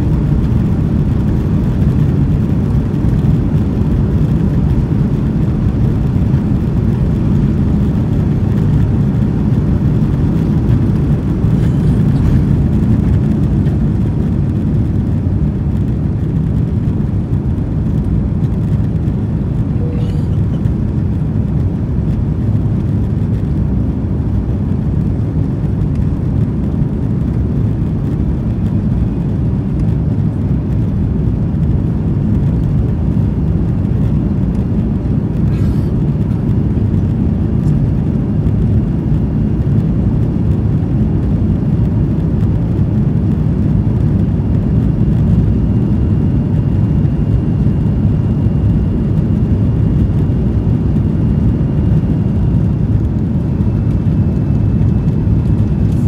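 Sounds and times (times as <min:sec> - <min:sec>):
jet engines and airflow rumble: 0:00.0 - 0:56.0.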